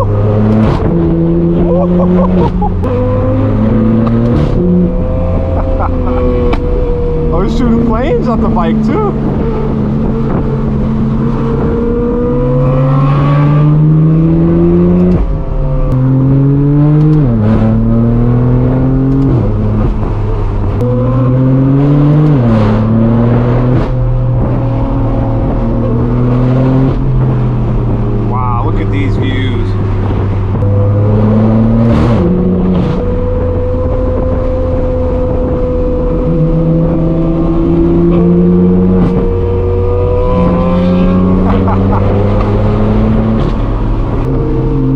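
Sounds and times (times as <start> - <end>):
gear upshifts: 0.0 - 44.9
loud car exhaust droning: 0.0 - 44.9.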